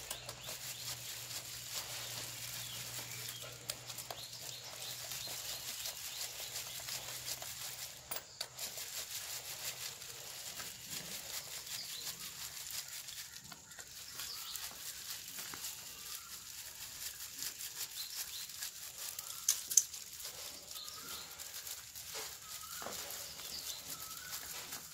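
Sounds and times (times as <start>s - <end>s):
gloved hands rubbing metal: 0.0s - 24.9s.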